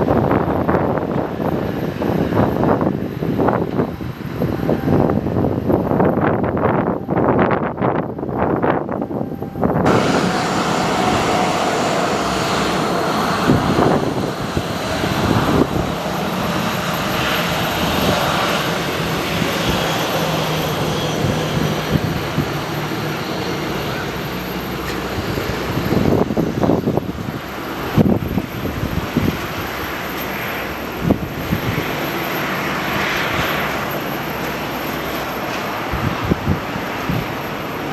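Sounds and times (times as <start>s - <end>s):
airliner engines roaring: 0.0s - 37.9s
wind buffeting microphone: 0.0s - 37.9s.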